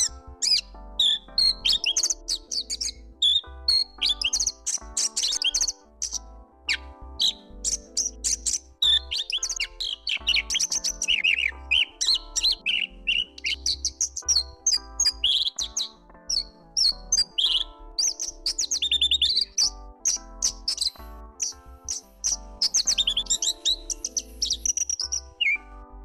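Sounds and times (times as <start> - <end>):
bird singing: 0.0 - 25.8
background music: 0.0 - 26.0.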